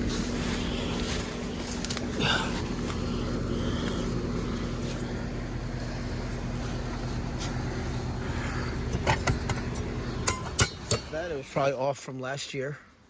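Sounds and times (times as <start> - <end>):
air conditioner unit humming: 0.0 - 11.8.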